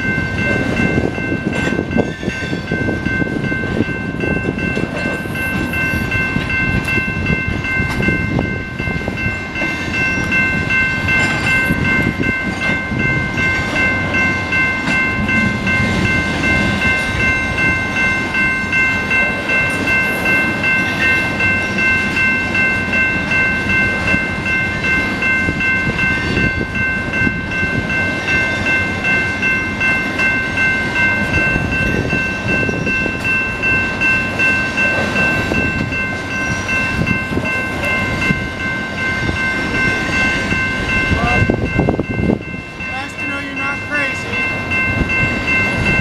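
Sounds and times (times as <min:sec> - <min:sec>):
high-pitched ringing tone: 0:00.0 - 0:46.0
train wheels rumbling and clattering: 0:00.0 - 0:46.0.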